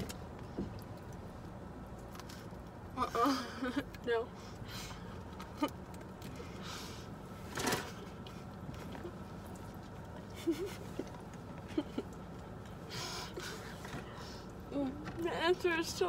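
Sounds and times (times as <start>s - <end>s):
car interior low hum: 0.0s - 16.0s.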